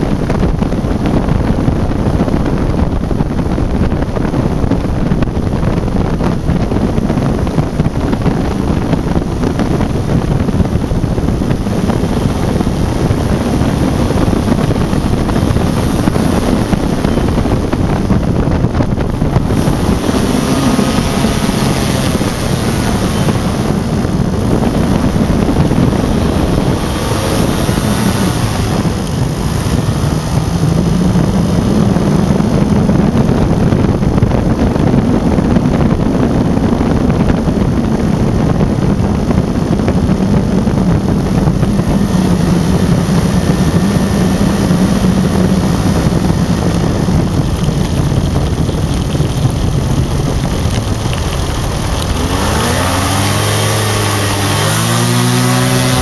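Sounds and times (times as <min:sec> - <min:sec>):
two-stroke engine running: 0:00.0 - 0:56.0
wind noise on microphone: 0:00.0 - 0:56.0.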